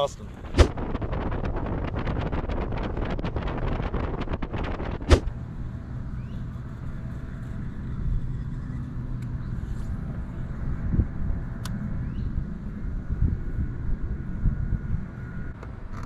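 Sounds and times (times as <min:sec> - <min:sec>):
low rumble of wind and water: 0:00.0 - 0:16.0
wind buffeting microphone: 0:00.0 - 0:16.0.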